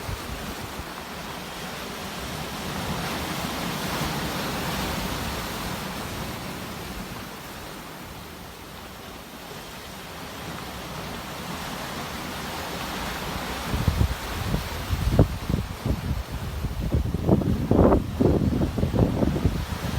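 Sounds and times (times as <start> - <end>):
sea waves washing in: 0.0 - 19.9.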